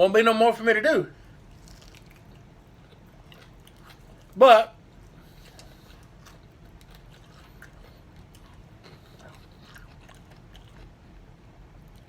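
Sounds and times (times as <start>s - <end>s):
wet chewing: 1.4s - 12.0s.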